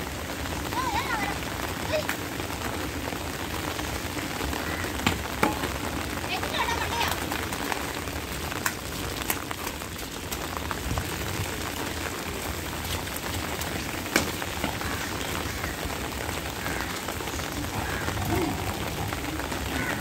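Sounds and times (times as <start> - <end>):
rain falling on wet tiles: 0.0 - 20.0.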